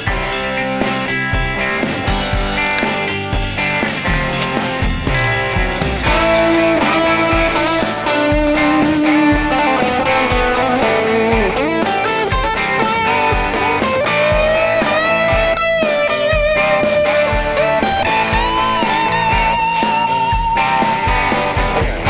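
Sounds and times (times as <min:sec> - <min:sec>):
blues-rock electric guitar music: 0:00.0 - 0:22.0.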